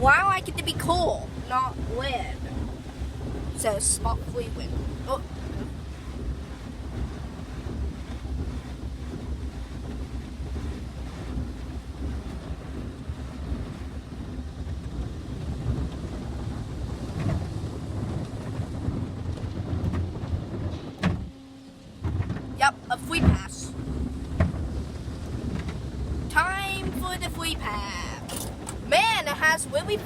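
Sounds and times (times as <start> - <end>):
car wash water spray and machinery: 0.0 - 30.0.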